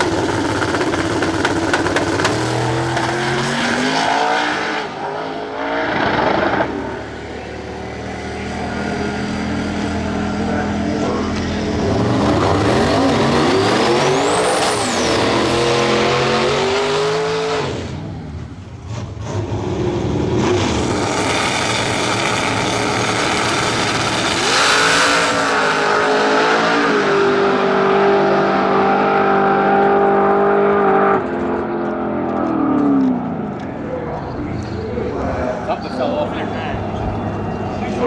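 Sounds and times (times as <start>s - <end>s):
drag race car engines accelerating: 0.0s - 38.0s.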